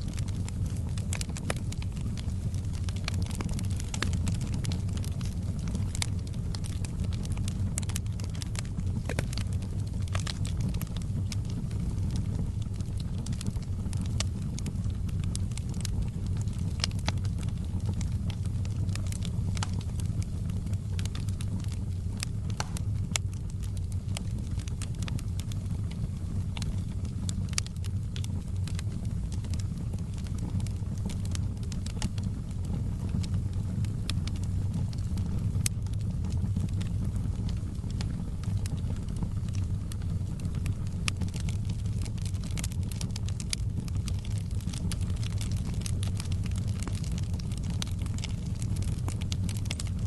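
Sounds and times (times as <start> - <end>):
fireplace fire crackling: 0.0 - 50.0
low rumble of flames: 0.0 - 50.0
sharp snaps and pops: 0.0 - 50.0.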